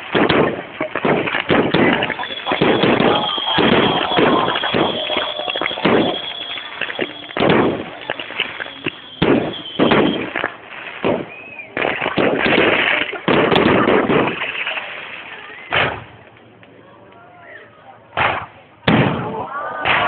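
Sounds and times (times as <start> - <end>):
fireworks bangs: 0.0 - 16.4, 18.1 - 20.0
fireworks crackling: 0.0 - 16.8.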